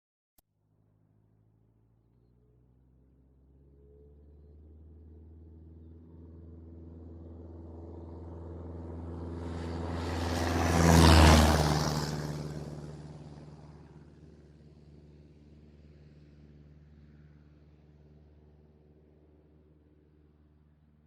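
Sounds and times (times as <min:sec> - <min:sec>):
propeller plane passing: 0:02.2 - 0:21.0.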